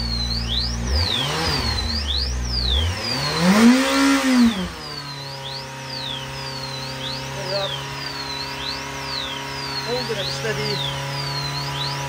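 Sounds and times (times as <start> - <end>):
motorcycle engine idling and revving: 0.0 - 12.0
warbling alarm: 0.0 - 12.0.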